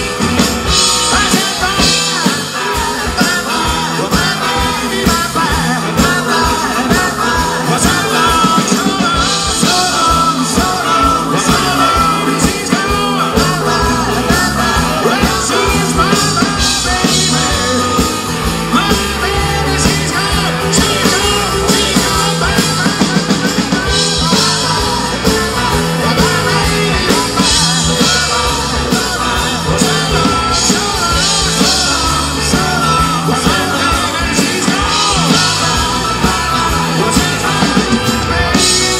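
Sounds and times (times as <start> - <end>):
drum kit: 0.0 - 38.9
electric guitars: 0.0 - 38.9
person singing: 0.0 - 38.9.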